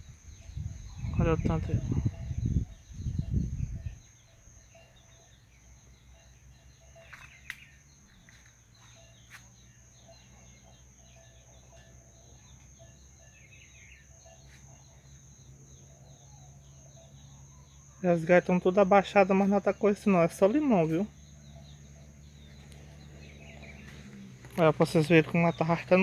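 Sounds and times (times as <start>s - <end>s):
bird chirps: 0.0s - 26.0s
high insect drone: 0.0s - 26.0s.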